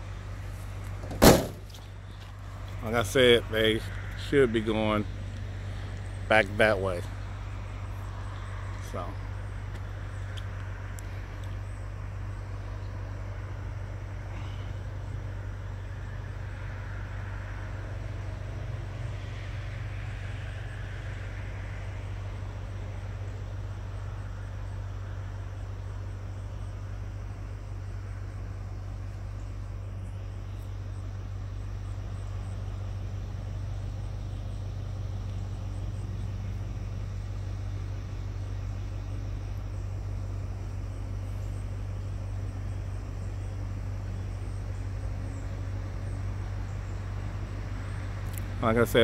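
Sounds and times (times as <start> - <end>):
faint insect chirps: 0.0 - 49.0
faint outdoor hiss: 0.0 - 49.0
motor vehicle engine humming: 0.0 - 49.0.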